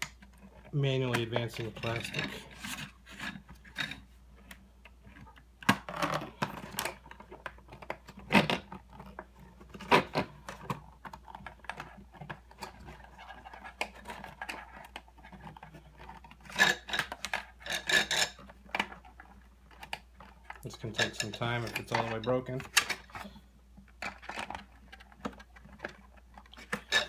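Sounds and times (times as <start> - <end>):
hard plastic clicks and scrapes: 0.0 - 27.0.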